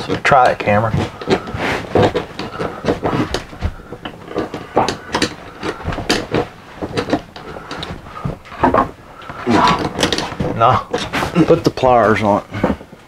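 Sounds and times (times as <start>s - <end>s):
steel cable knocking and rattling: 0.0s - 13.0s.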